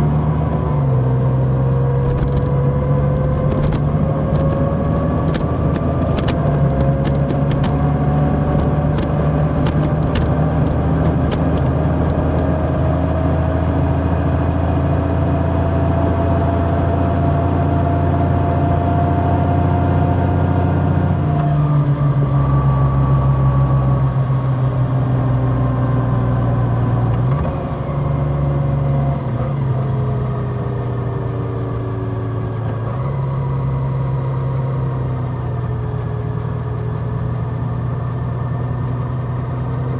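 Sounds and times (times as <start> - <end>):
large motorcycle engine running: 0.0 - 39.9.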